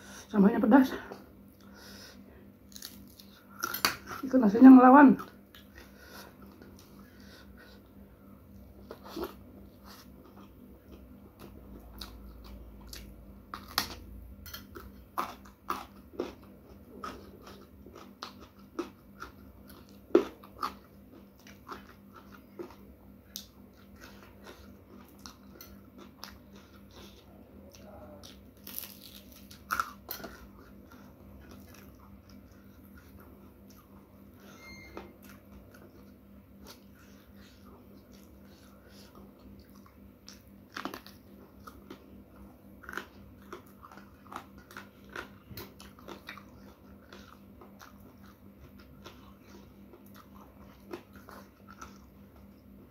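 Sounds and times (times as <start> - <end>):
chewing rice: 1.1 - 4.3, 5.2 - 52.9.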